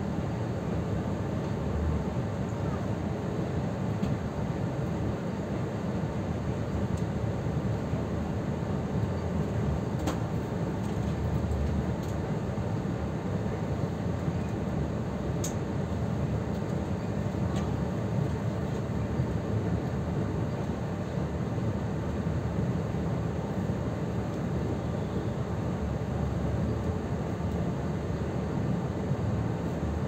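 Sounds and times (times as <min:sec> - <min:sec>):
train running low rumble: 0:00.0 - 0:30.0.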